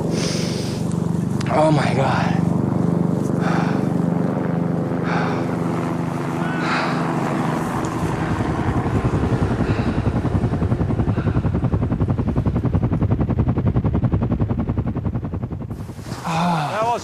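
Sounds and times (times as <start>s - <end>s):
helicopter rotor chopping: 0.0s - 17.0s.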